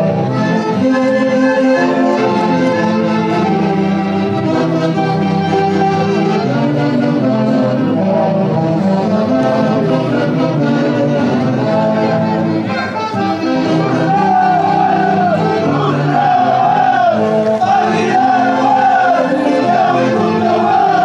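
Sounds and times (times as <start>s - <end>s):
horn section chords: 0.0s - 21.0s.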